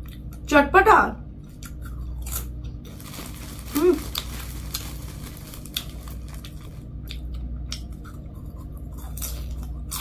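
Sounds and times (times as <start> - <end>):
steady low hum: 0.0 - 10.0
popcorn crunching: 1.4 - 10.0.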